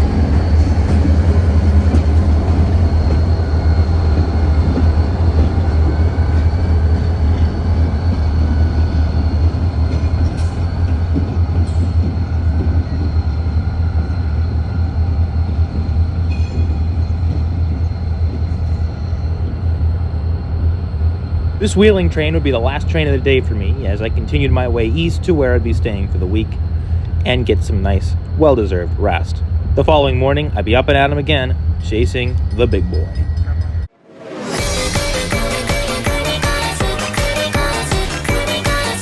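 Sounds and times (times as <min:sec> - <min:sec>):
train wheels rolling on rails: 0:00.0 - 0:33.9
diesel locomotive engine drone: 0:00.0 - 0:39.0.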